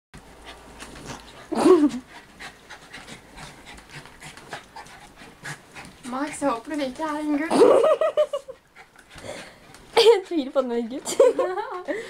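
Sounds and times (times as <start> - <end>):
small dogs panting: 0.3 - 12.0.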